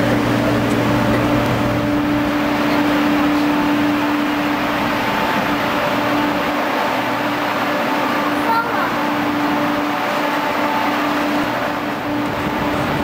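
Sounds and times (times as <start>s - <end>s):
low hum: 0.0s - 13.0s
train equipment drone: 0.0s - 13.0s.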